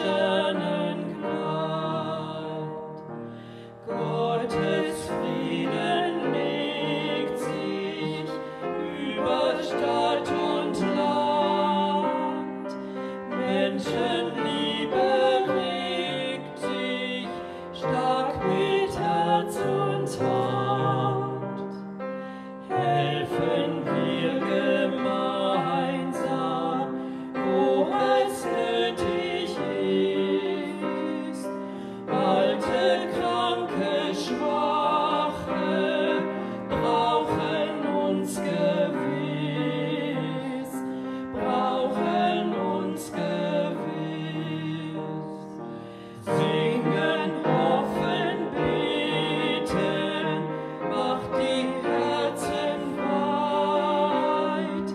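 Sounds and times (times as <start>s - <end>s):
man and woman singing: 0.0s - 2.8s, 3.9s - 21.4s, 22.7s - 45.3s, 46.0s - 54.9s
upright piano: 0.0s - 54.9s.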